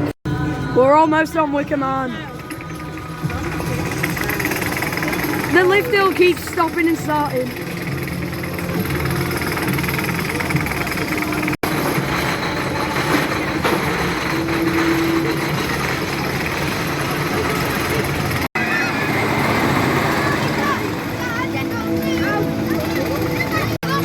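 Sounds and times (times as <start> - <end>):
wooden roller coaster rumbling: 0.8 - 24.0.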